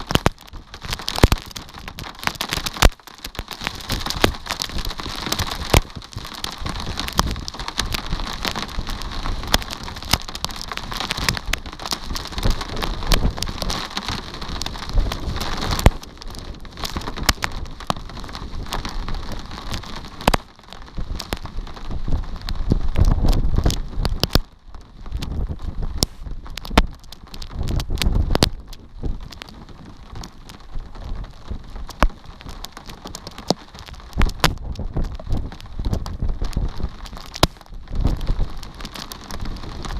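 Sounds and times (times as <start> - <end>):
raindrops clicking: 0.0 - 39.9
steady rain hiss: 0.0 - 39.9.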